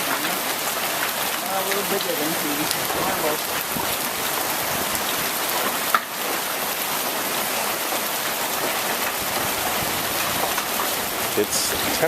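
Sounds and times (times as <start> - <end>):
rain and hail pelting down: 0.0 - 12.0.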